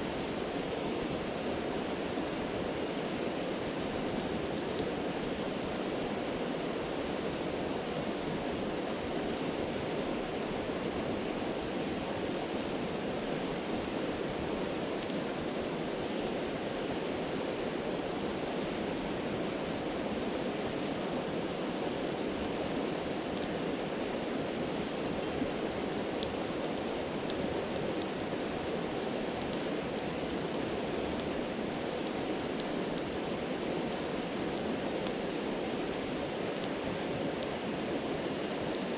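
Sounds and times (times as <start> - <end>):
faint campfire crackles: 0.0 - 38.9.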